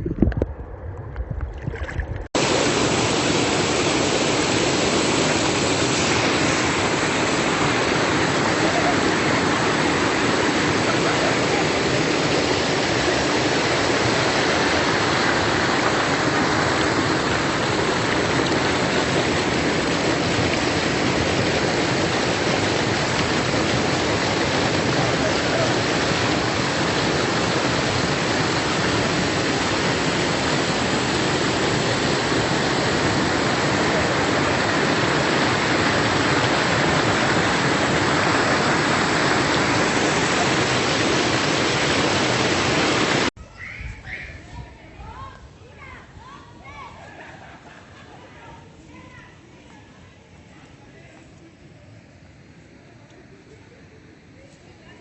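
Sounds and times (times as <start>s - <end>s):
river water flowing: 0.6s - 43.3s, 47.1s - 54.5s.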